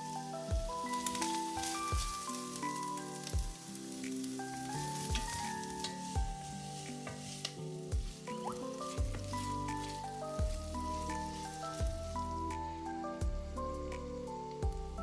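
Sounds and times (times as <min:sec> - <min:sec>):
food sizzling in a pan: 0:00.0 - 0:12.5
background music: 0:00.0 - 0:15.0.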